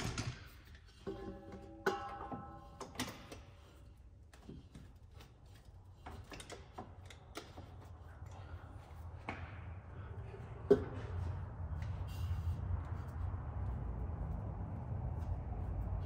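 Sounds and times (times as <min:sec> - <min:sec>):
low steady hum: 0:00.4 - 0:16.0.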